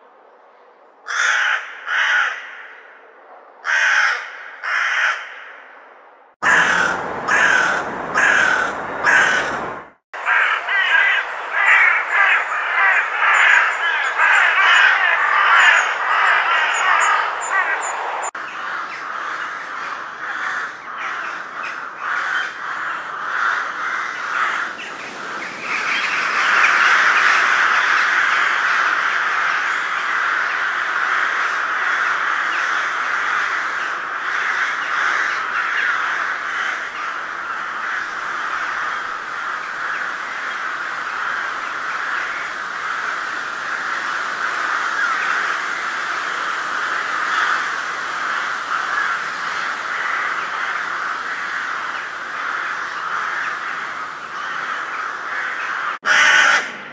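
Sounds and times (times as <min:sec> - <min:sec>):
flock of crows calling: 0:01.0 - 0:03.0, 0:03.6 - 0:05.6, 0:06.4 - 0:56.9
crows cawing: 0:01.1 - 0:02.8, 0:03.6 - 0:05.6, 0:06.4 - 0:56.9.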